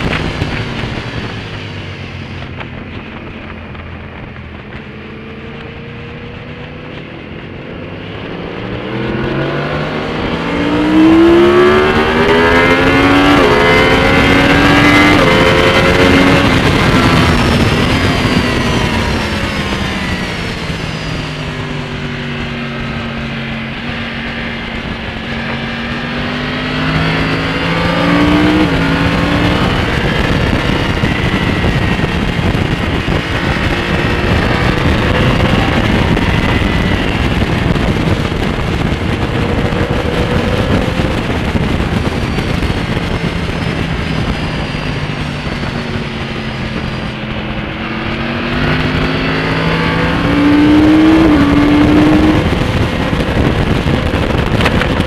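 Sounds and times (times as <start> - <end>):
motorcycle engine at speed: 0.0 - 55.0
wind noise on microphone: 0.0 - 55.0.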